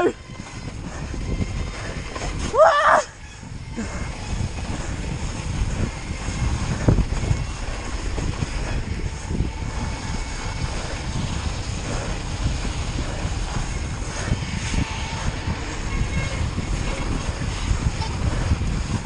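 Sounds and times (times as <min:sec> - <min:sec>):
tyres on snow: 0:00.0 - 0:19.0
wind buffeting: 0:00.0 - 0:19.0.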